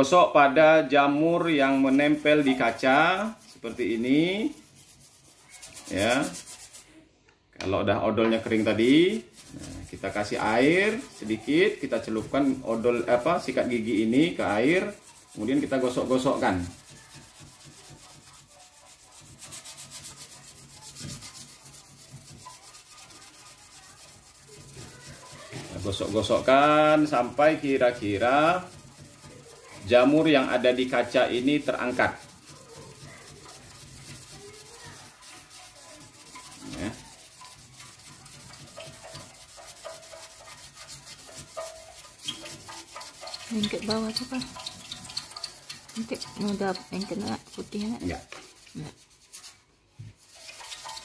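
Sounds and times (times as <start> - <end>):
toothbrush scrubbing on glass: 0.0 - 7.0, 8.2 - 51.0.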